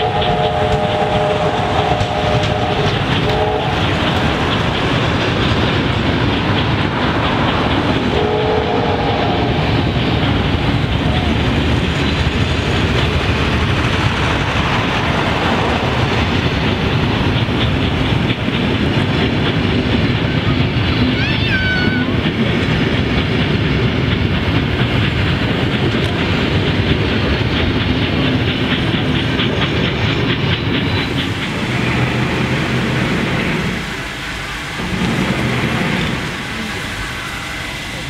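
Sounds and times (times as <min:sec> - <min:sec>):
train wheels clattering over rails: 0:00.0 - 0:38.0.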